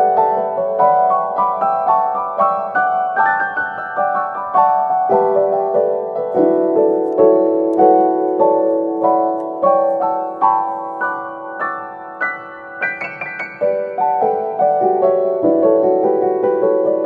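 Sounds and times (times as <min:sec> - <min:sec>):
gentle solo piano piece: 0:00.0 - 0:17.0.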